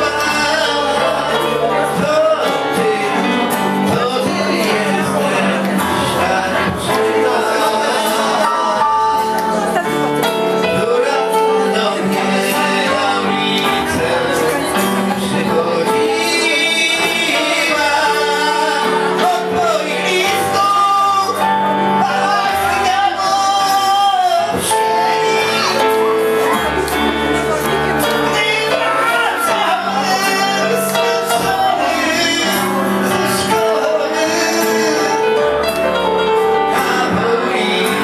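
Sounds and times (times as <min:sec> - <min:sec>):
acoustic guitar: 0:00.0 - 0:38.0
man singing into a microphone: 0:00.0 - 0:38.0.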